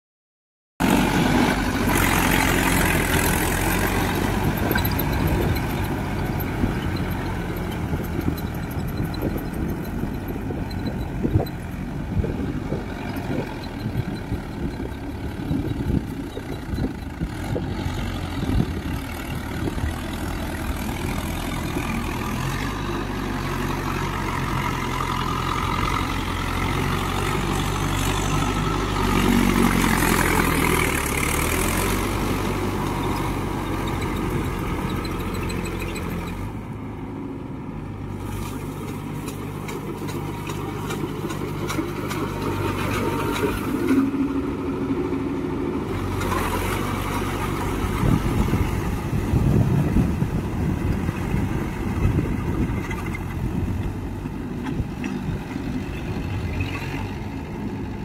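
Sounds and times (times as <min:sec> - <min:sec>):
tractor diesel engine running: 0:00.8 - 0:58.0.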